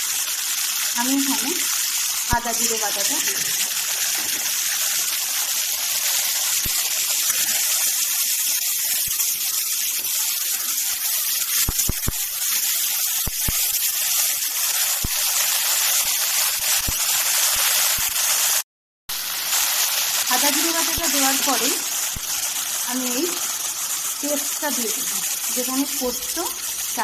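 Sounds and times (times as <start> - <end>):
oil sizzling in a pan: 0.0 - 27.0.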